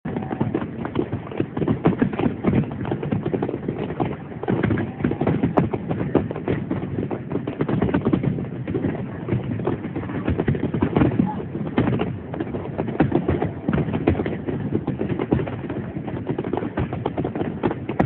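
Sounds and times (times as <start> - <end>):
fireworks crackling and banging: 0.1 - 18.0.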